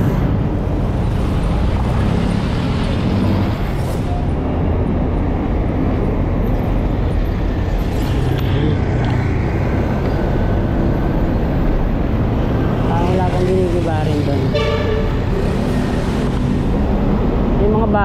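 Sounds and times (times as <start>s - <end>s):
engine rumble: 0.0s - 18.0s
road noise: 0.0s - 18.0s.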